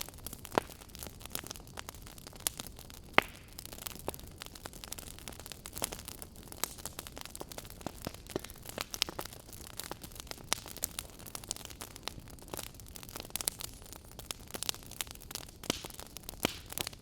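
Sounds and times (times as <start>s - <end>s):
loud fire snaps: 0.0s - 17.0s
wood fire crackling: 0.0s - 17.0s.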